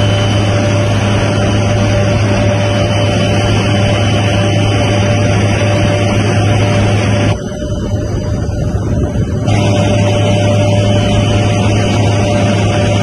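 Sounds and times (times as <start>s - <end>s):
helicopter rotor and engine drone: 0.0s - 13.0s
high steady whine: 0.0s - 13.0s.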